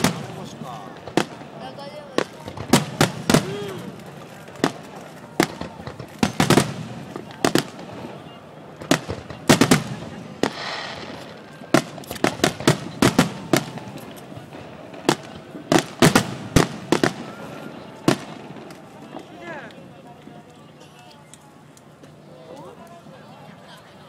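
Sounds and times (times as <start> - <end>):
fireworks hiss: 0.0 - 19.4
fireworks bangs: 0.0 - 20.4.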